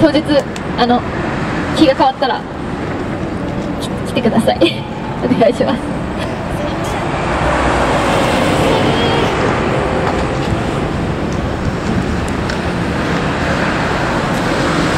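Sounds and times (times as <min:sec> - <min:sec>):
road traffic: 0:00.0 - 0:14.9.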